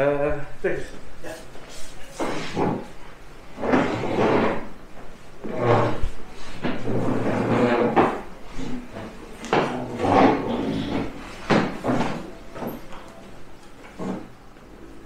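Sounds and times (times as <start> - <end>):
chairs scraping on wooden floor: 2.1 - 15.0.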